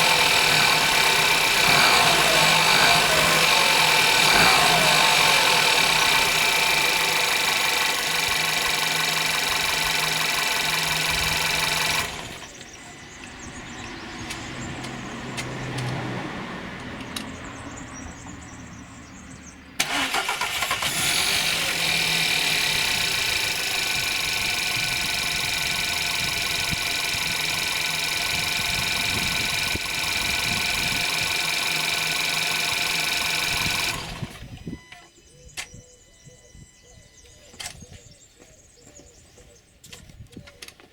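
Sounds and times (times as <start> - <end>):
car engine running: 0.0 - 15.7, 17.4 - 34.8.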